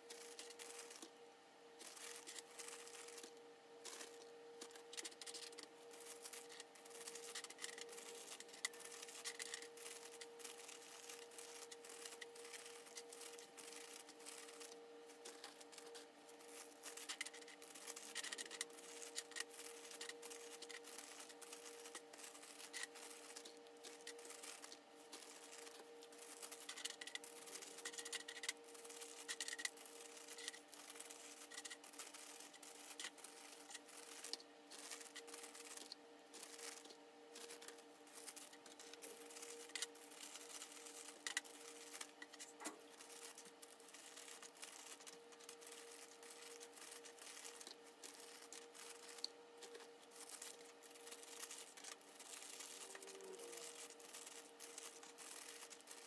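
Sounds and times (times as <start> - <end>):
plastic bag crinkling: 0.0 - 1.2, 1.8 - 56.0
steady hum: 0.0 - 56.0.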